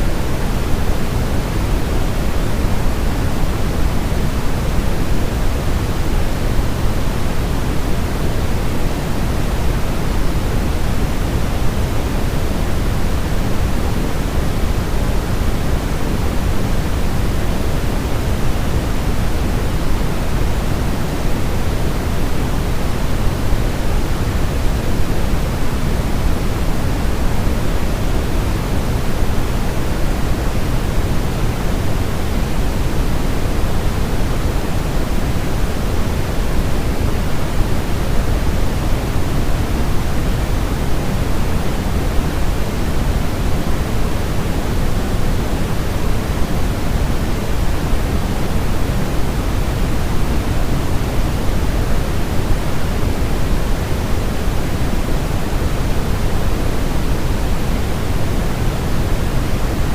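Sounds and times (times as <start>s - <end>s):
white noise rushing hiss: 0.0s - 59.9s.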